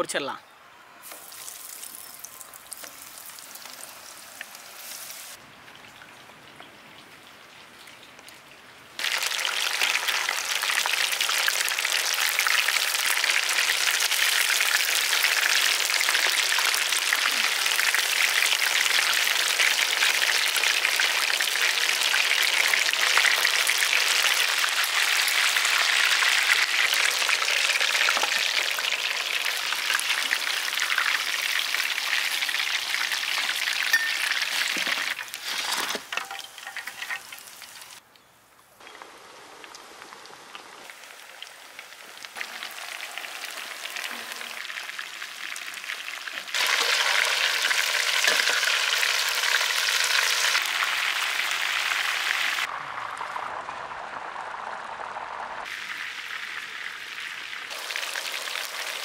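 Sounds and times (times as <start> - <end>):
food deep-frying in oil: 1.1 - 38.0, 38.8 - 59.0.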